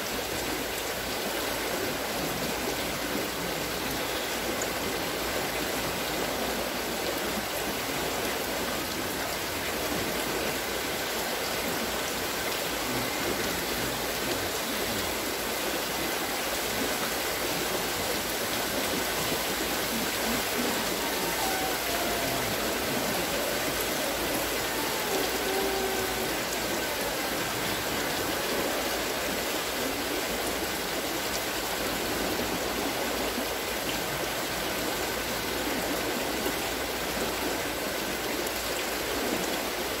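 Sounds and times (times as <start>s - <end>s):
water pouring and splashing: 0.0s - 40.0s.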